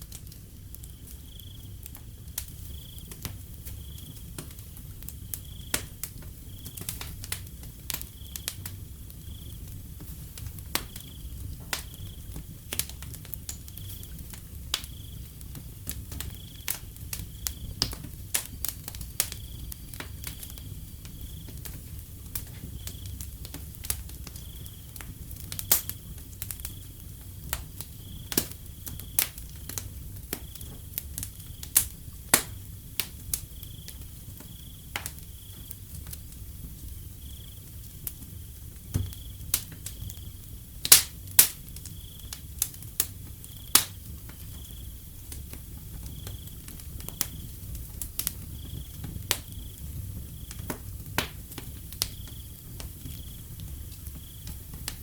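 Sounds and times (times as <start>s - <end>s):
wood fire crackling: 0.0s - 55.0s
cricket chirping: 0.7s - 32.0s, 32.6s - 55.0s.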